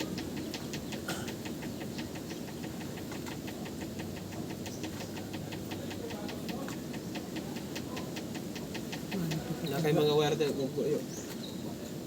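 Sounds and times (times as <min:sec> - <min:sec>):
steady ticking: 0:00.0 - 0:10.4.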